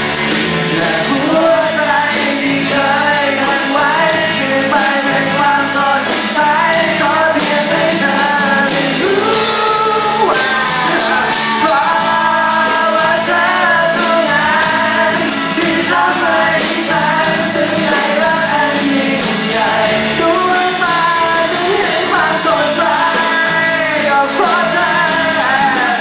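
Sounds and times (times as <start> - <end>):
acoustic guitar accompaniment: 0.0 - 26.0
person singing: 0.0 - 26.0.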